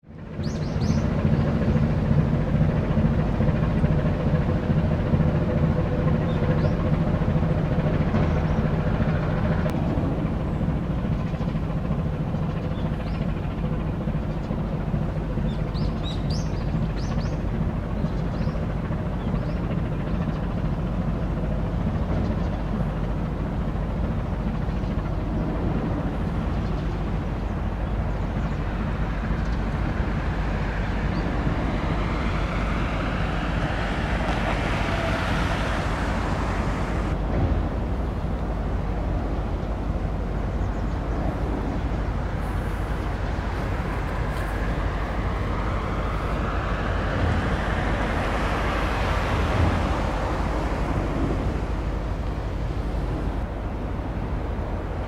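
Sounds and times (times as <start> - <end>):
ship diesel engine drone: 0.0 - 55.0.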